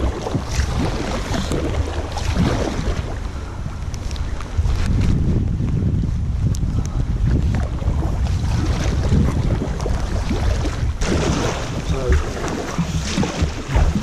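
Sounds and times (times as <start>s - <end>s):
paddle strokes splashing water: 0.0s - 5.2s, 7.3s - 14.0s
wind and rain rumble on microphone: 0.0s - 14.0s.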